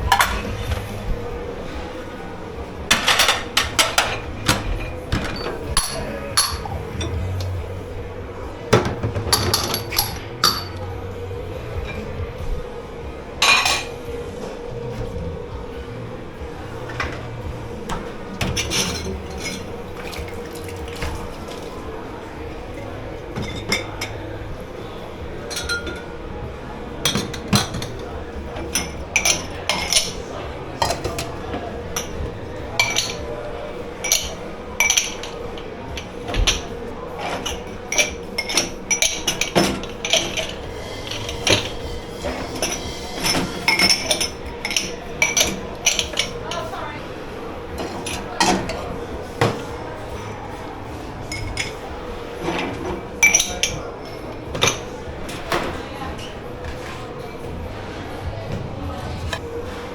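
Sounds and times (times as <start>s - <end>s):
crockery and cutlery clattering: 0.0s - 12.4s, 13.3s - 16.0s, 16.6s - 59.9s
steady background hum: 0.0s - 59.9s.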